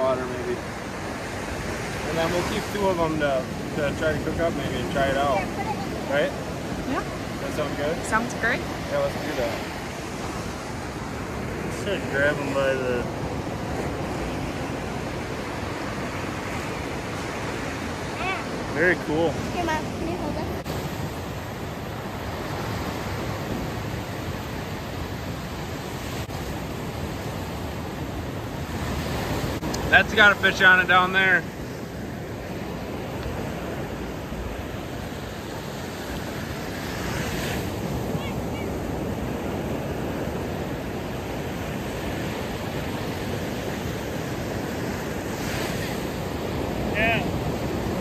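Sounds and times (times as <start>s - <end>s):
ocean surf breaking on beach: 0.0s - 48.0s.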